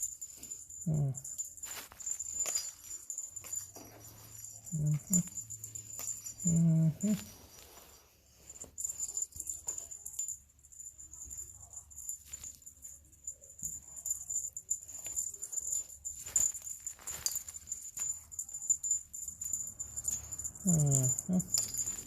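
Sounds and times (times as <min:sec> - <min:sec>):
small bell jingling: 0:00.0 - 0:22.0.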